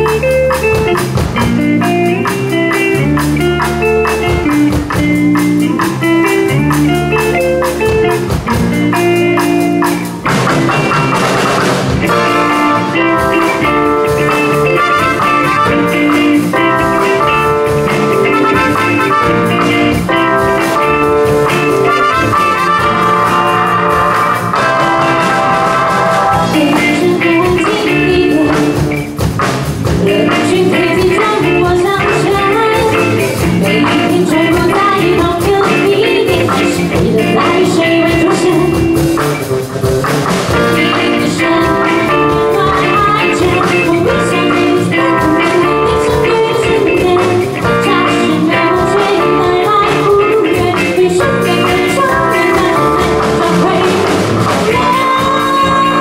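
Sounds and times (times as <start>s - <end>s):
drum kit: 0.0s - 56.0s
electric bass: 0.0s - 56.0s
electric guitar: 0.0s - 56.0s
keyboard: 0.0s - 56.0s.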